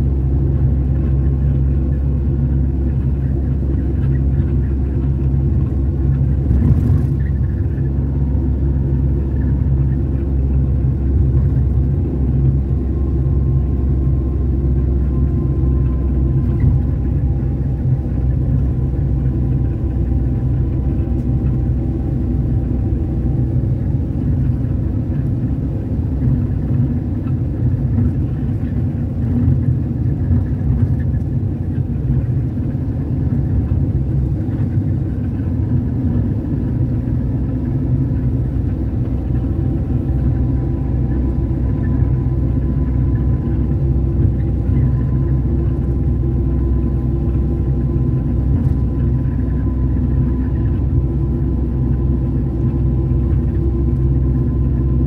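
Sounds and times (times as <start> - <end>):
vehicle engine and tyre noise: 0.0 - 55.0.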